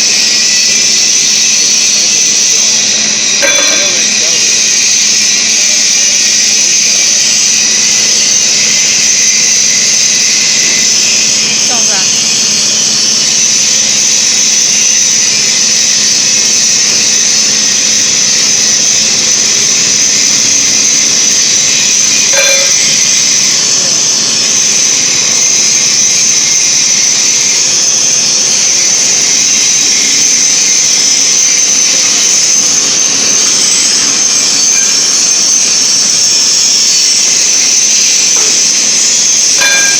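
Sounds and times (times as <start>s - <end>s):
machine high hiss: 0.0s - 39.9s.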